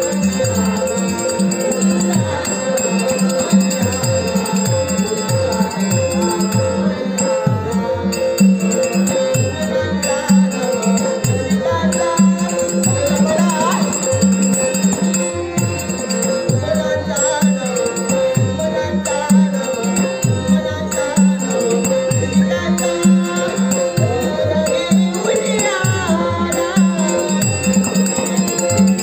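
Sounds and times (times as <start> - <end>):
harmonium holding notes: 0.0 - 29.0
jingling cymbals: 0.0 - 29.0
person singing: 0.0 - 29.0.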